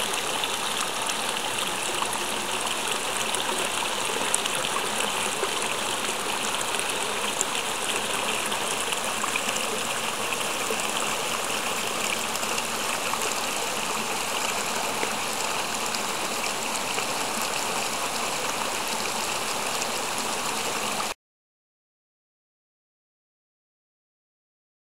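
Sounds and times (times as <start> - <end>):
water pouring into a pond: 0.0 - 21.2.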